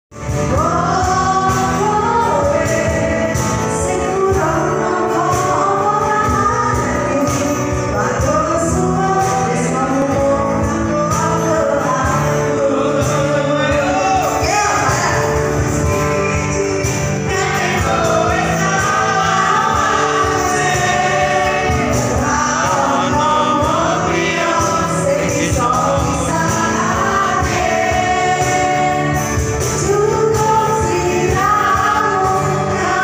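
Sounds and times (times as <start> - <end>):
live band guitars and keyboard: 0.1 - 33.0
women singing a duet: 0.3 - 33.0.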